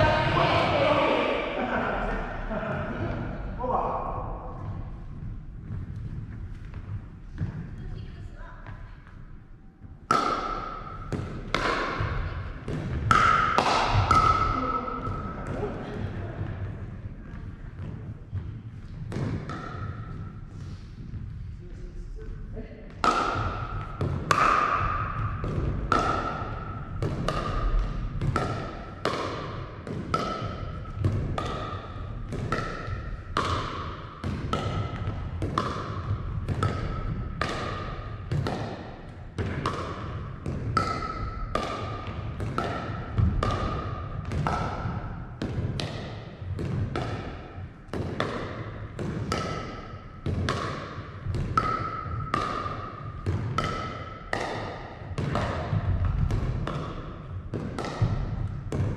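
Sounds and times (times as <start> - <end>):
paddles hitting plastic ball: 8.6 - 15.7, 16.4 - 21.4, 22.9 - 58.9.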